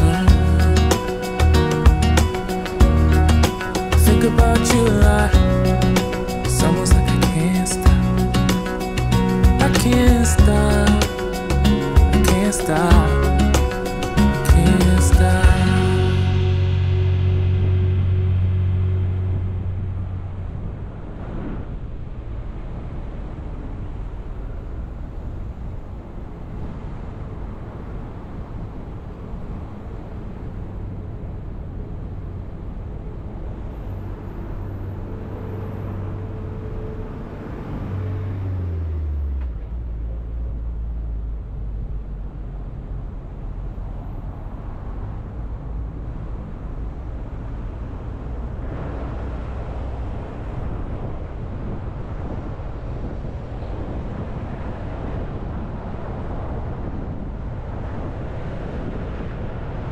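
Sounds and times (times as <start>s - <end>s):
car engine and road rumble: 0.0s - 59.9s
low hum: 0.0s - 59.9s.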